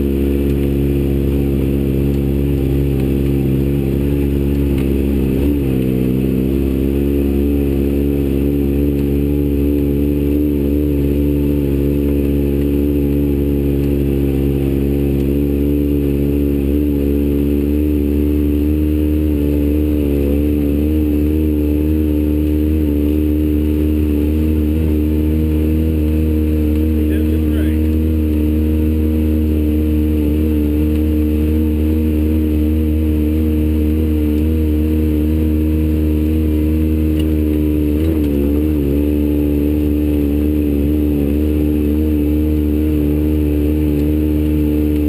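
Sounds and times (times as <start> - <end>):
vehicle engine running at low revs: 0.0 - 45.0.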